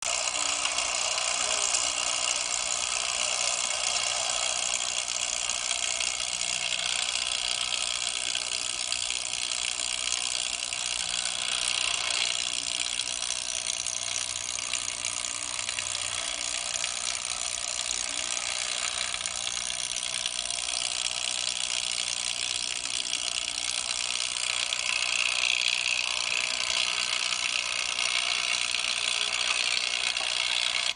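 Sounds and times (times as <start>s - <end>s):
sawmill machinery running: 0.0s - 30.9s.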